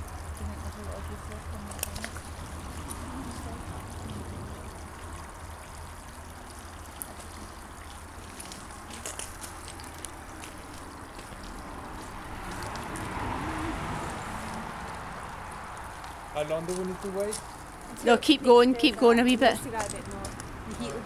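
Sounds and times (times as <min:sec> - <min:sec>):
water fountain trickling: 0:00.0 - 0:21.0.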